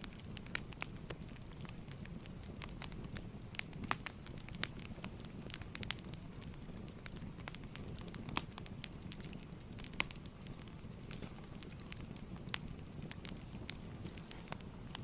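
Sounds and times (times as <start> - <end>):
fire popping and snapping: 0.0 - 15.0
flames rumbling: 0.0 - 15.0.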